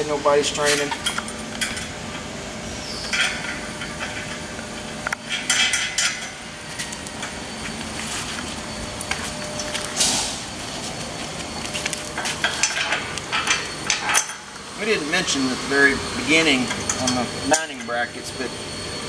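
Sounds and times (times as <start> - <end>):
metal bolts clinking and scraping: 0.5 - 15.0, 16.4 - 18.2.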